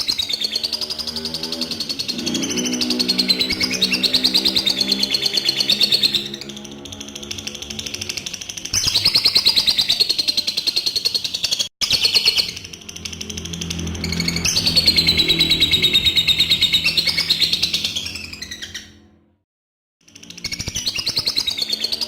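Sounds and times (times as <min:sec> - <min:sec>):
bird chattering trills: 0:00.0 - 0:19.0.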